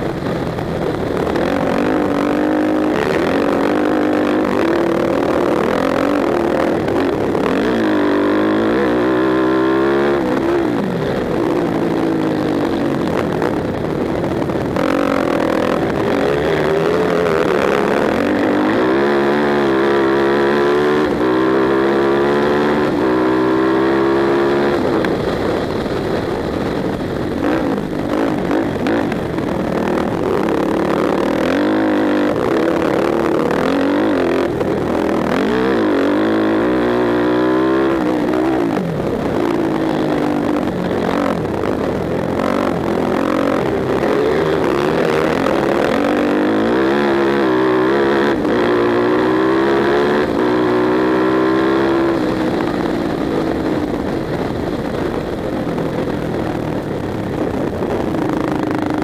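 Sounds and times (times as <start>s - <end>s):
quad engine accelerating: 0.0s - 59.0s.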